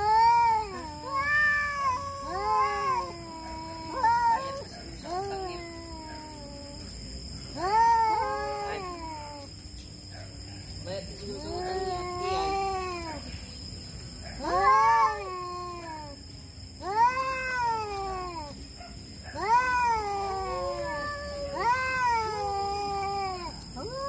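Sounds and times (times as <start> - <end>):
cats caterwauling: 0.0 - 7.0, 7.6 - 9.6, 11.2 - 13.4, 14.2 - 24.0.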